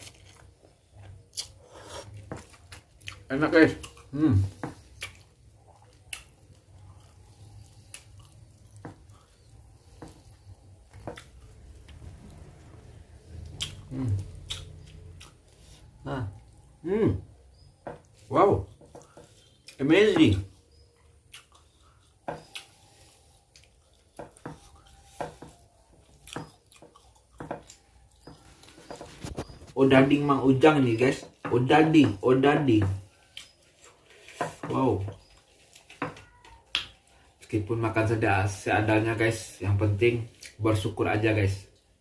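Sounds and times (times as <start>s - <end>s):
person chewing food: 0.0s - 29.8s, 33.0s - 37.4s.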